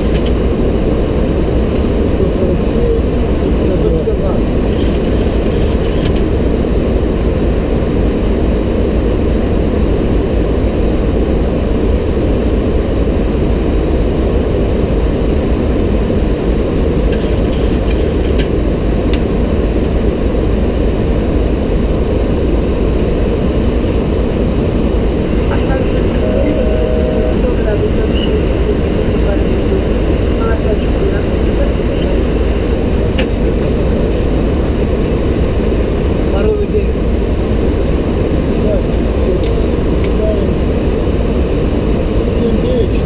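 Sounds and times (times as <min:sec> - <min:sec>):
cockpit airflow and engine noise: 0:00.0 - 0:43.0.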